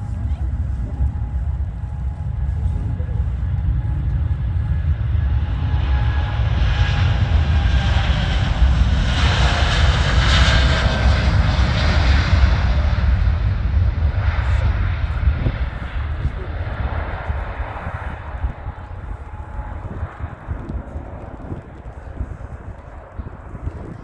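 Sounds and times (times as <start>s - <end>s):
jet plane passing by: 0.0s - 24.0s.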